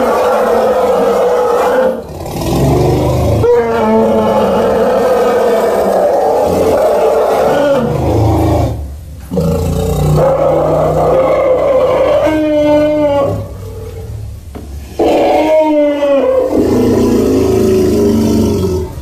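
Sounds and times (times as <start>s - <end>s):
creature roaring: 0.0s - 14.1s, 14.9s - 19.0s.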